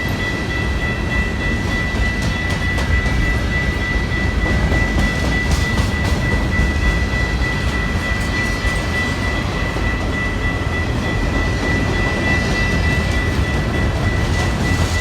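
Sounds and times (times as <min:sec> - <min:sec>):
constant high-pitched tone: 0:00.0 - 0:15.0
train rumbling past: 0:00.0 - 0:15.0.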